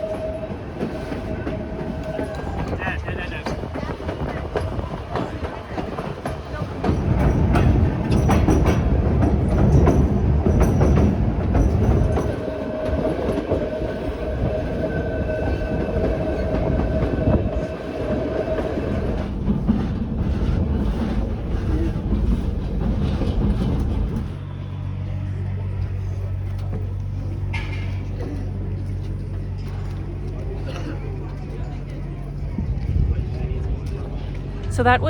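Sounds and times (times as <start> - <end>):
train rumbling over rails: 0.0 - 35.0.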